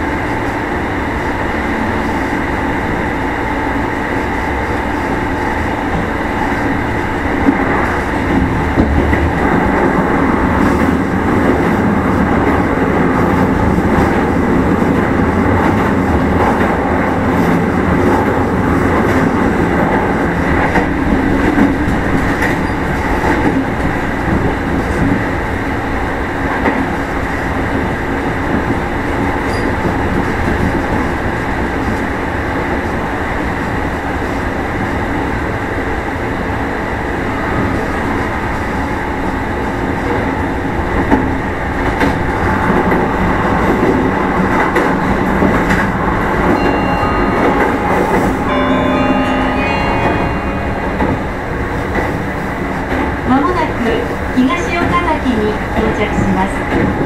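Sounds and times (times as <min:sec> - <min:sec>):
train motors and wheels rumbling: 0:00.0 - 0:57.0.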